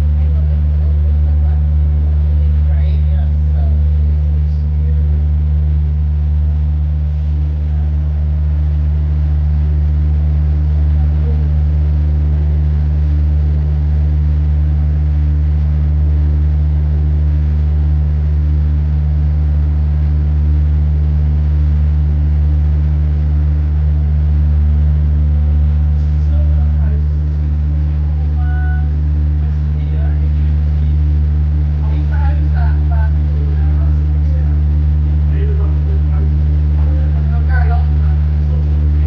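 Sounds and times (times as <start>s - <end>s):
engine droning: 0.0s - 39.0s.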